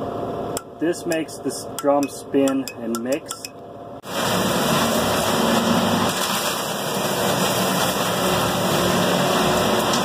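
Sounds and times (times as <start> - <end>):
low truck engine hum: 0.0 - 10.0.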